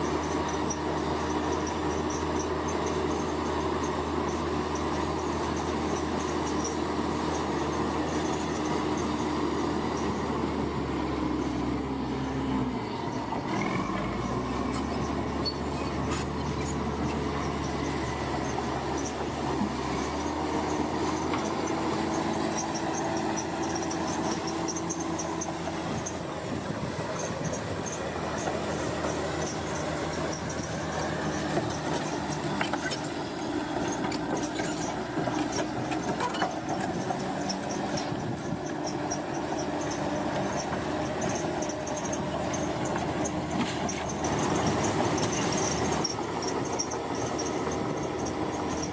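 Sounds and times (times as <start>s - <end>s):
bulldozer diesel engine running: 0.0s - 48.9s
steel tracks squealing and clanking: 0.0s - 48.9s.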